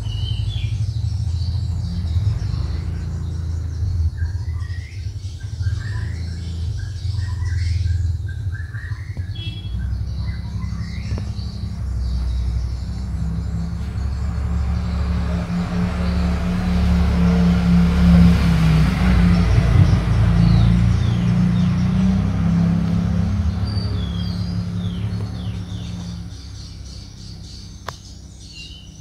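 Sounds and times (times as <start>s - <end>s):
birds chirping: 0.0s - 29.0s
vehicle engine humming: 0.0s - 29.0s.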